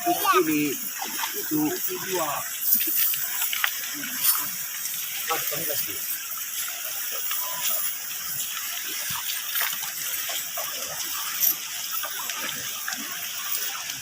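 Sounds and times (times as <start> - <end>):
flowing river water: 0.0 - 14.0
small splashes and clicks: 0.1 - 14.0.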